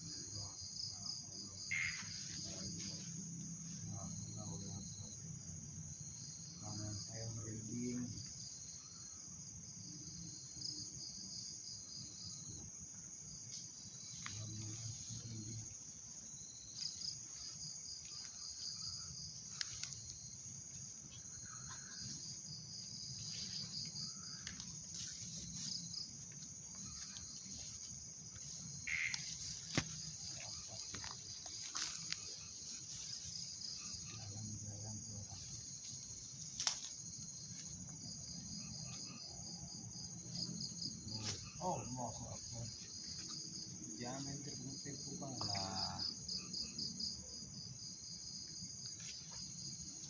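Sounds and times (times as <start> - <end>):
crickets chirping: 0.0 - 50.0.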